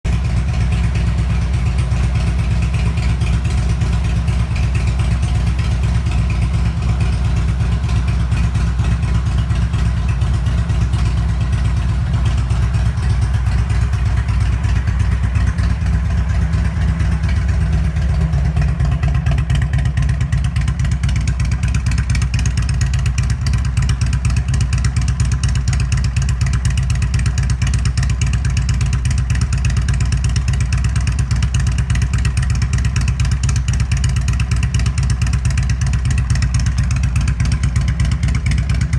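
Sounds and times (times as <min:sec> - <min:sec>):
motorcycle engine deep rumble: 0:00.0 - 0:38.9.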